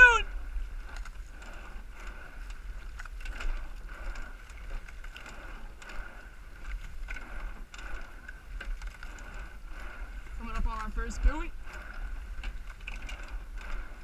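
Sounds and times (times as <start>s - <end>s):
oars clicking in oarlocks: 0.0s - 14.0s.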